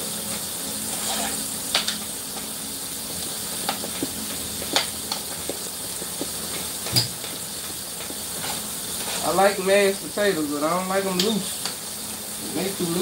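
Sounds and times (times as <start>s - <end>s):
pans sizzling: 0.0s - 13.0s.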